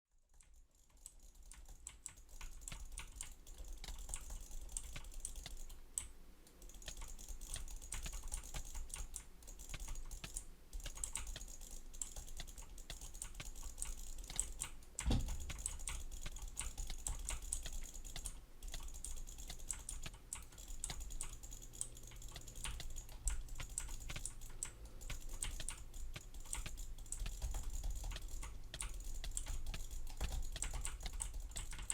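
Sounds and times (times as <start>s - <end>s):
keyboard keys clicking: 0.3s - 31.9s.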